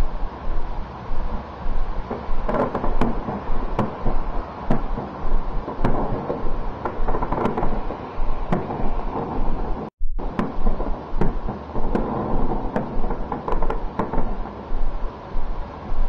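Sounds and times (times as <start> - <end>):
fireworks crackling: 0.0 - 16.0
fireworks bangs with echo: 1.8 - 15.0.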